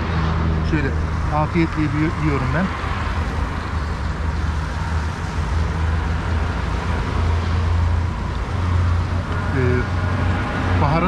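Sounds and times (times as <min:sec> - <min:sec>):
cars passing on road: 0:00.0 - 0:11.0.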